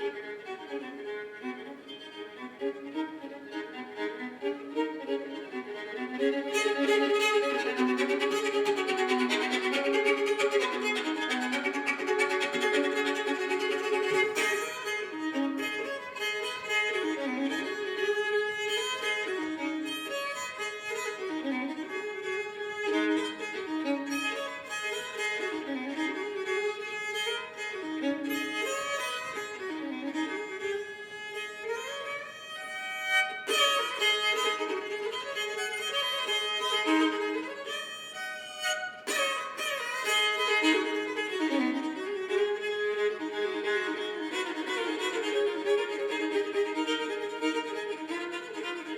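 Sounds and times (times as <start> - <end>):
solo fiddle with drones: 0.0 - 48.9.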